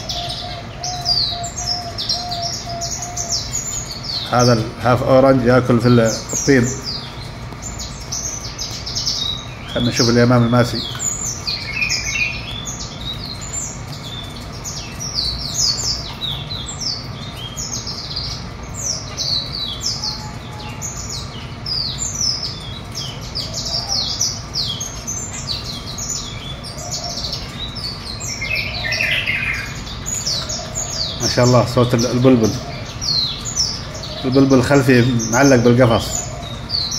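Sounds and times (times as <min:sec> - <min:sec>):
low steady hum: 0:00.0 - 0:36.9
small birds chirping: 0:00.0 - 0:36.9.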